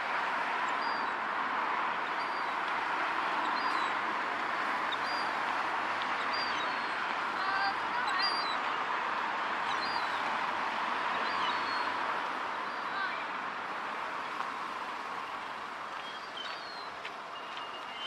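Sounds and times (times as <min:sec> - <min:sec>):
passing road traffic: 0:00.0 - 0:18.0.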